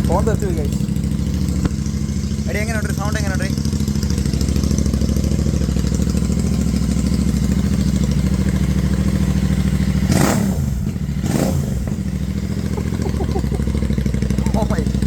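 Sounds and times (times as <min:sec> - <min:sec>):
engine revving: 0:00.0 - 0:15.0
motorcycle engine idling open exhaust: 0:00.0 - 0:15.0.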